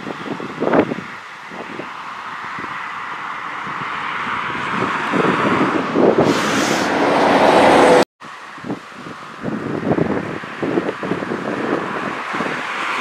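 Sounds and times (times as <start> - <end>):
propeller plane engine: 0.0 - 13.0
wind buffeting microphone: 0.0 - 13.0.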